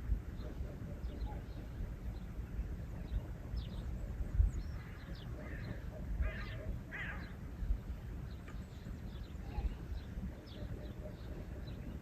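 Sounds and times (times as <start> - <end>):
low uneven rumble: 0.0 - 12.0
small birds chirping: 0.0 - 12.0
farmyard bird calling: 0.3 - 7.4, 8.3 - 12.0.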